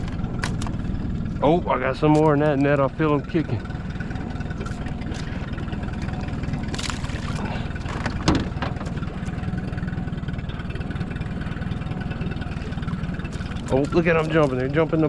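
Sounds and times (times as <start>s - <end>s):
boat motor idling: 0.0s - 15.0s
water splashes: 0.0s - 15.0s.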